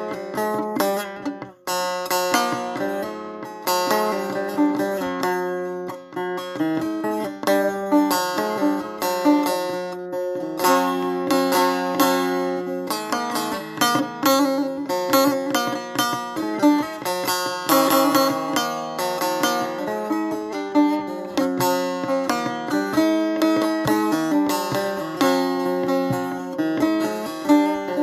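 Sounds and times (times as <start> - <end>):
lute plucked melody: 0.0 - 28.0.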